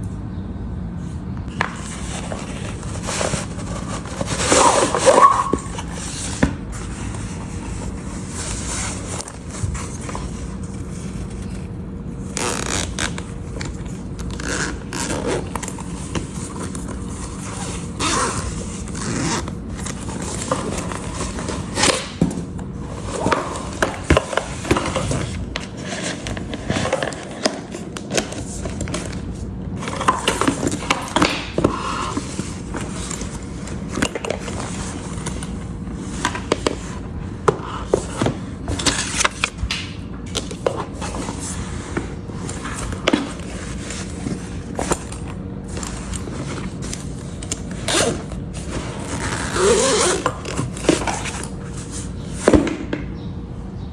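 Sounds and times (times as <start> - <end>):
packaging scraping and rustling: 1.5 - 52.6.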